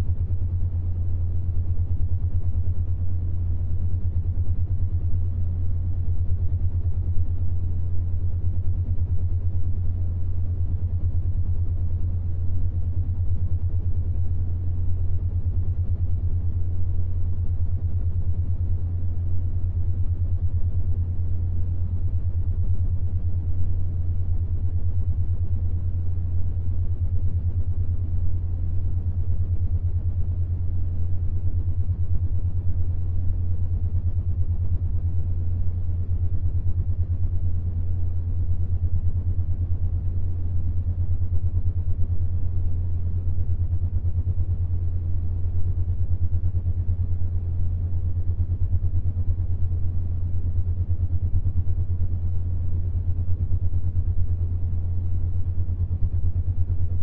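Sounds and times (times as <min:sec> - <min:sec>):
faint rumbling noise: 0:00.0 - 0:57.0
steady low hum: 0:00.0 - 0:57.0.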